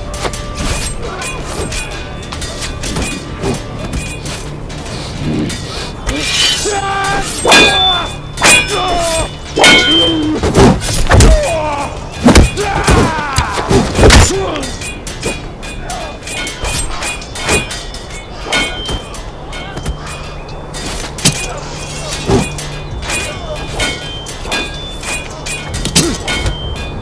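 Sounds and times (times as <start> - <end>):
background music: 0.0 - 27.0
fighters shouting and grunting: 0.0 - 27.0
sword blades clashing: 0.0 - 27.0.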